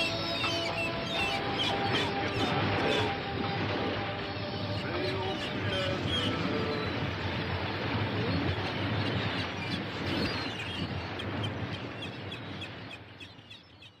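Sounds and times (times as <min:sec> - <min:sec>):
birds chirping: 0:00.0 - 0:14.0
steady rushing background: 0:00.0 - 0:14.0.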